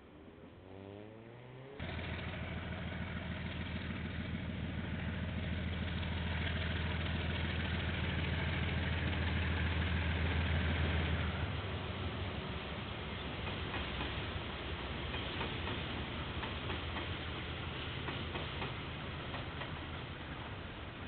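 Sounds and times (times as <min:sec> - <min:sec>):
diesel locomotive engine drone: 0:01.8 - 0:21.0.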